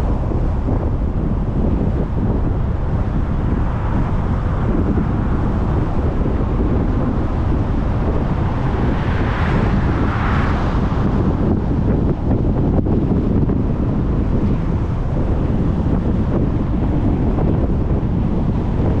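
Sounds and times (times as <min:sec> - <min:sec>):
vehicle road noise: 0:00.0 - 0:19.0.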